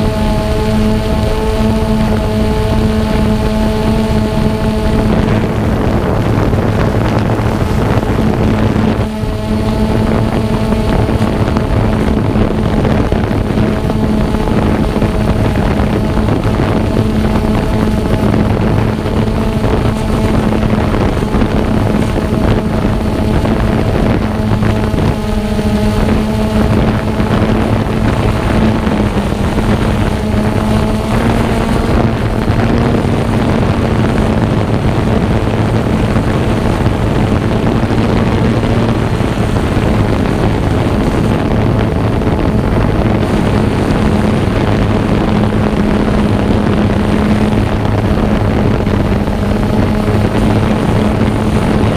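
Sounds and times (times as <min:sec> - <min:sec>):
drone motors humming: 0:00.0 - 0:51.9
rushing wind noise: 0:00.0 - 0:51.9.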